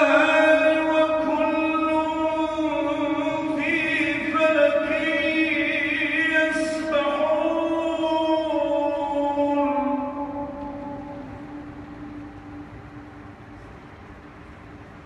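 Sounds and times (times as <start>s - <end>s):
man chanting recitation: 0.0s - 12.6s.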